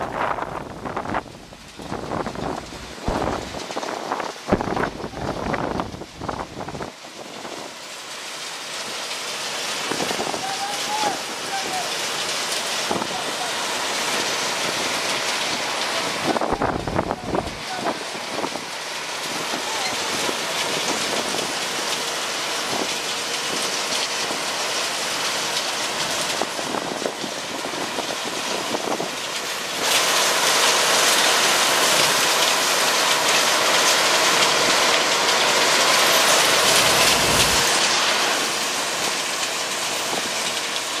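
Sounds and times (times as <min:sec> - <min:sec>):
mixing plant roar: 0:00.0 - 0:41.0.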